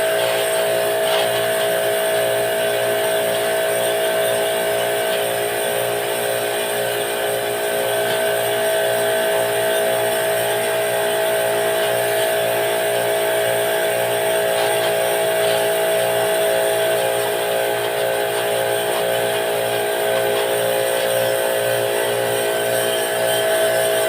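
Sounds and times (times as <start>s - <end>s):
motor whining steadily: 0.0s - 24.0s.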